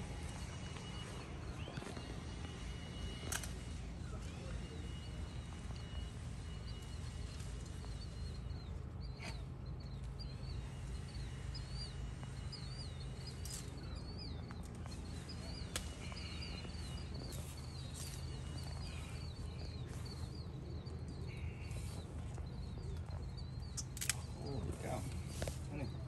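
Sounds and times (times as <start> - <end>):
steady low hum: 0.0 - 26.0
small bird chirping: 0.1 - 26.0.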